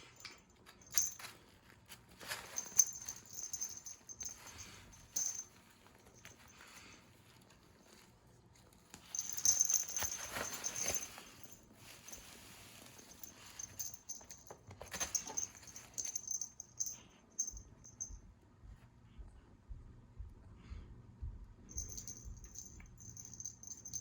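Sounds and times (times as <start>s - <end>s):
cat toy rustling and rattling: 0.0s - 18.1s, 21.7s - 24.0s.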